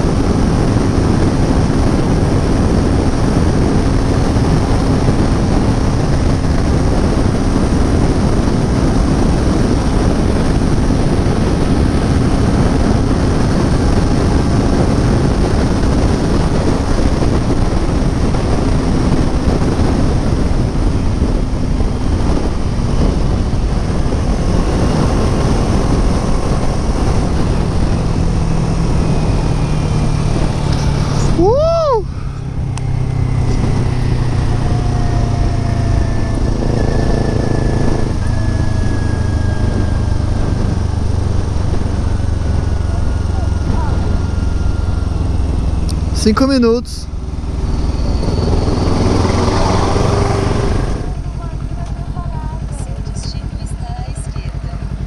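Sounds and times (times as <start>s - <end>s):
motorcycle engine hum: 0.0s - 55.0s
wind rushing over microphone: 0.0s - 55.0s.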